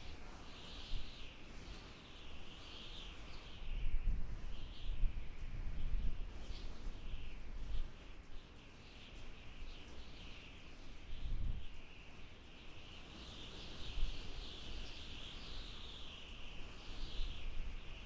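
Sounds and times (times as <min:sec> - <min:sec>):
low rumble of wind gusts: 0:00.0 - 0:18.0.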